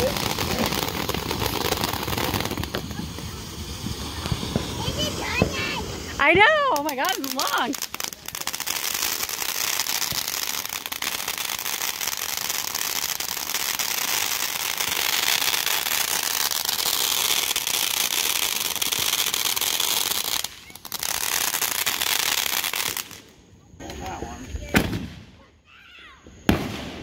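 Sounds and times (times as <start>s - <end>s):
firework fountain hissing and crackling: 0.0s - 27.0s.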